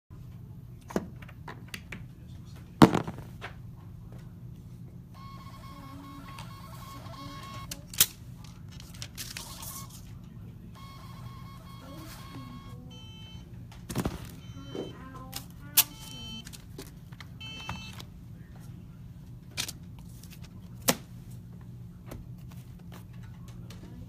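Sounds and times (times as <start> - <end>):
low steady hum: 0.1 - 24.0.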